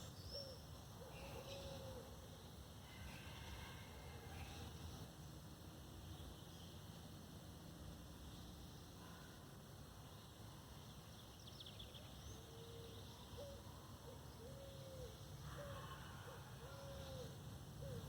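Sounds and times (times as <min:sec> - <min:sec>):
faint forest ambience: 0:00.0 - 0:18.0.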